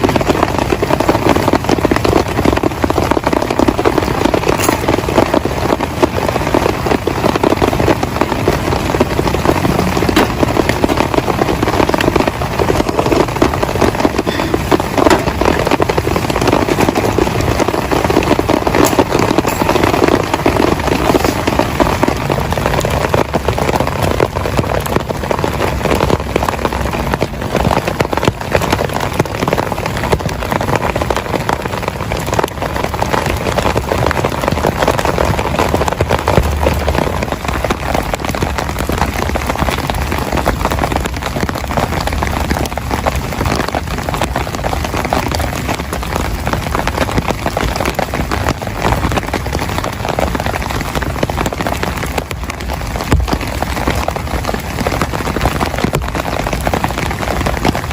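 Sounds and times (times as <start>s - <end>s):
heavy rain patter: 0.0s - 57.9s.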